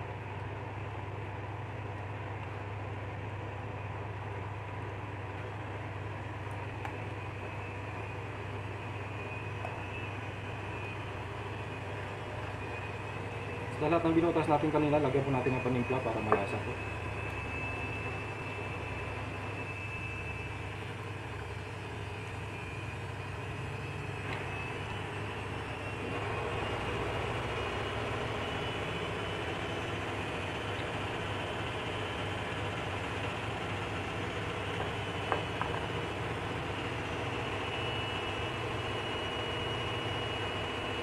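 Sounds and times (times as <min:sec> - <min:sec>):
machine hum with high whine: 0:00.0 - 0:41.0.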